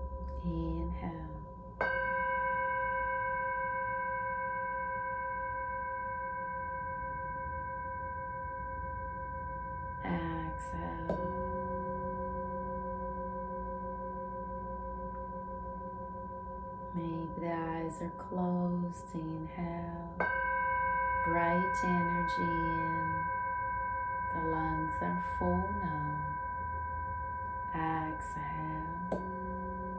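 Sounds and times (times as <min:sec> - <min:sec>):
singing bowl ringing: 0:00.0 - 0:29.9.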